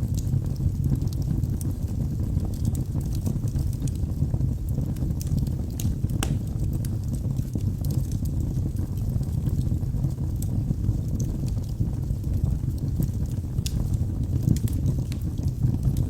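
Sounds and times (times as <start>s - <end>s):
logs burning in a fireplace: 0.0s - 16.0s.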